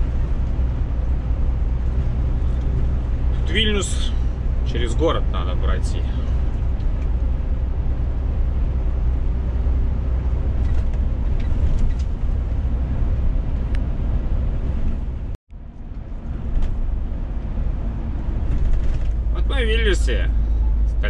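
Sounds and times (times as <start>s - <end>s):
truck engine drone: 0.0s - 21.0s
tyre and road noise: 0.0s - 21.0s.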